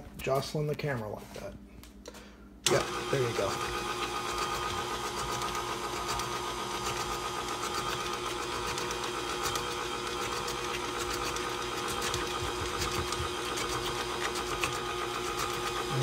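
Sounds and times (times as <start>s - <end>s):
stand mixer motor whine: 2.7s - 16.0s.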